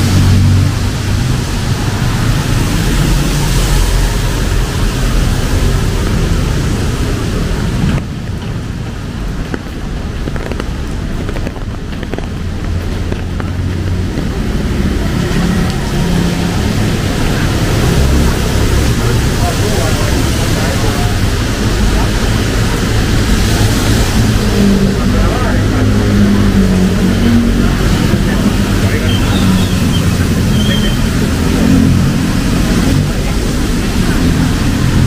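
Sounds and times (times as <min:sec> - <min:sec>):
rain and tyres hissing: 0:00.0 - 0:35.0
vehicle engines humming: 0:00.0 - 0:35.0.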